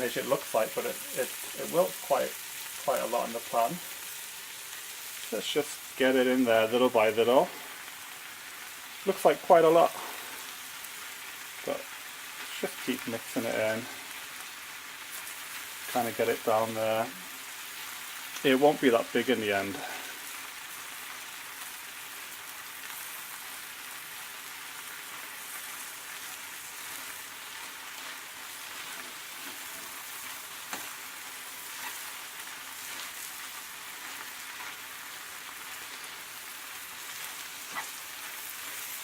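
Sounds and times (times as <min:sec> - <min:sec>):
food sizzling in a frying pan: 0:00.0 - 0:39.0.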